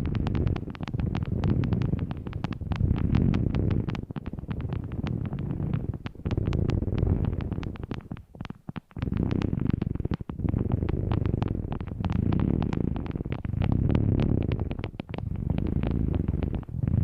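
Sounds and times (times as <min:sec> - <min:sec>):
small crisp clicks: 0:00.0 - 0:17.0.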